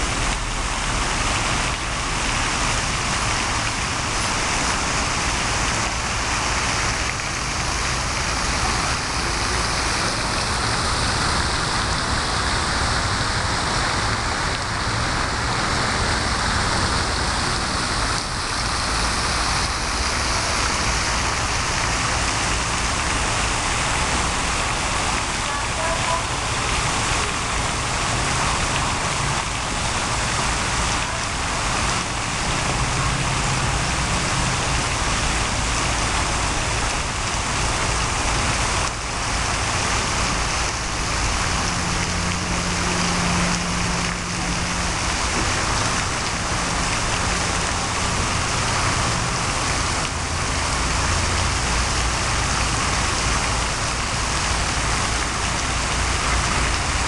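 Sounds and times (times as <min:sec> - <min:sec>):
fountain spray splashing on water: 0:00.0 - 0:57.0.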